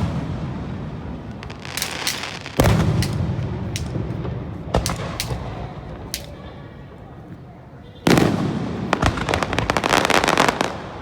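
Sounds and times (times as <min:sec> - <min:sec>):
fireworks bursting: 0:00.0 - 0:06.4, 0:08.0 - 0:11.0.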